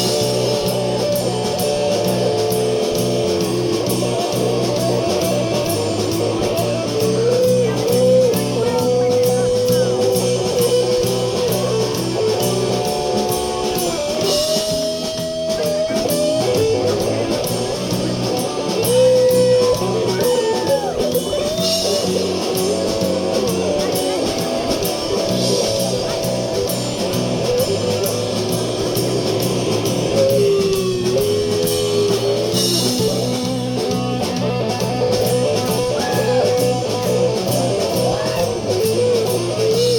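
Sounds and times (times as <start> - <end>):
blues-rock band playing: 0.0 - 39.9
electric guitar lead: 0.0 - 39.9.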